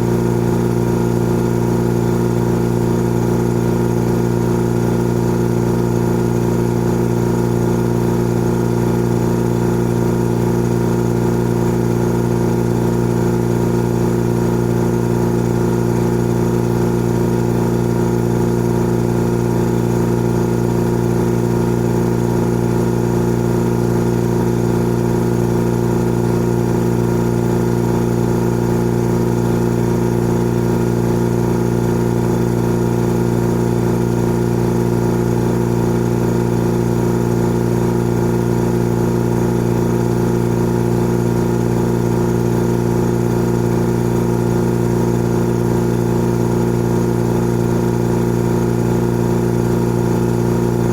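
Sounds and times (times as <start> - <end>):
air compressor humming: 0.0 - 50.9.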